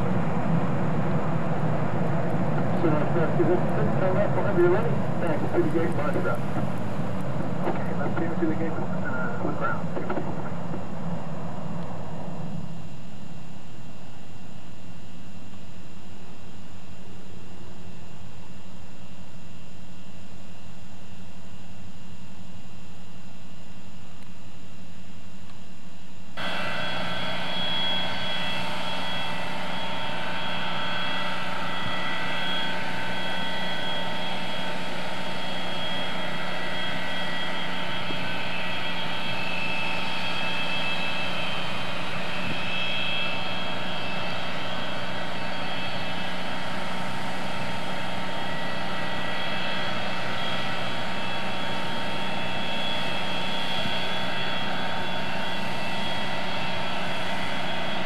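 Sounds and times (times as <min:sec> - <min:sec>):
jet engines idling whine: 0:00.0 - 0:58.0.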